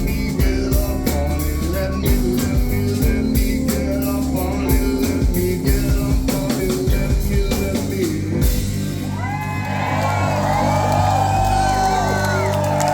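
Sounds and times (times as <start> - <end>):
rock band music: 0.0 - 12.9.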